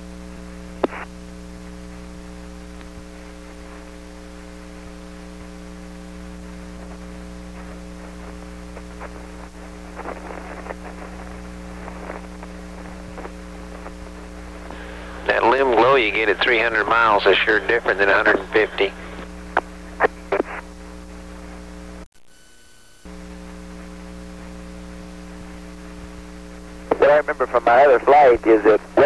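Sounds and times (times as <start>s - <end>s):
faint static crackles: 0.0s - 29.0s
steady electrical hum: 0.0s - 29.0s.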